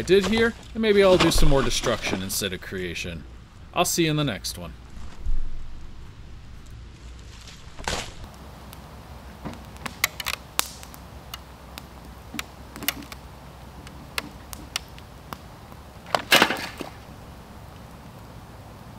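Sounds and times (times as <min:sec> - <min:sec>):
sharp cracks and pops: 0:00.0 - 0:02.9, 0:04.8 - 0:18.4.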